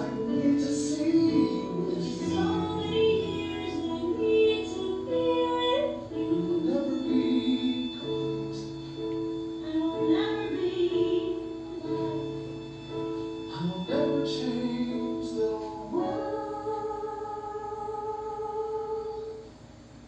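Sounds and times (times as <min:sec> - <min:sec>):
duet singing long notes: 0:00.0 - 0:19.6
instrumental accompaniment: 0:00.0 - 0:20.0.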